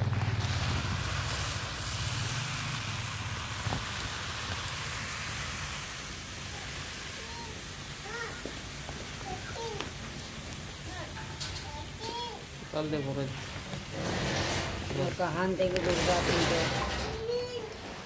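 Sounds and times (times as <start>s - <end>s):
rice grains rustling: 0.0s - 18.0s.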